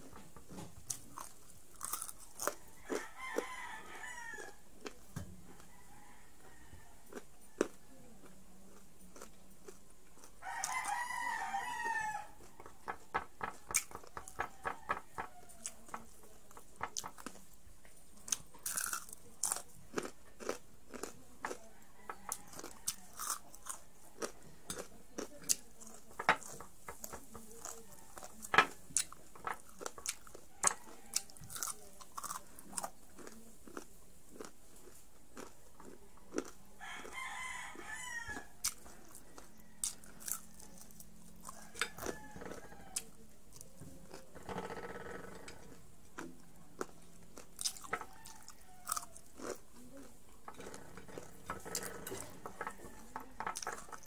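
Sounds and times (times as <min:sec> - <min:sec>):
crunching fried pork: 0:00.1 - 0:54.0.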